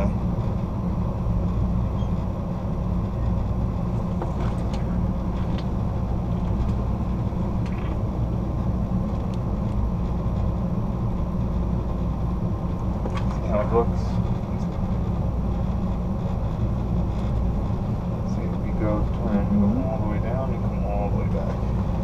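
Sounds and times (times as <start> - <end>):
train rumbling over rails: 0.0 - 22.0.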